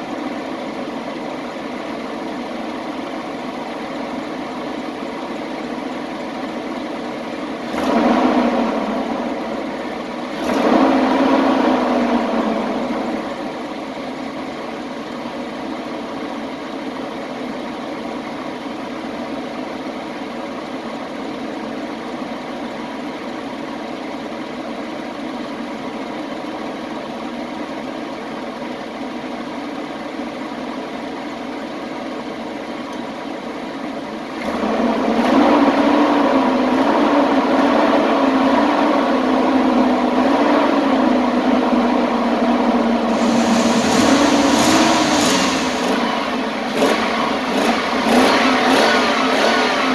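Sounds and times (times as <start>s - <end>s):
van engine idling and revving: 0.0s - 49.9s.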